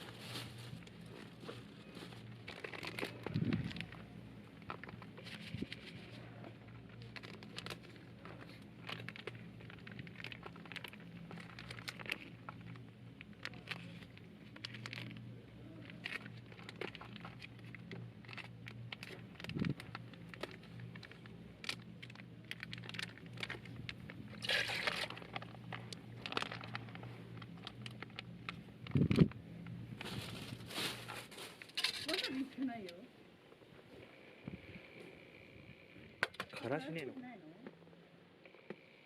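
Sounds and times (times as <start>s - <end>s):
crinkling and rustling: 0.0s - 34.2s
faint low hum: 0.0s - 39.0s.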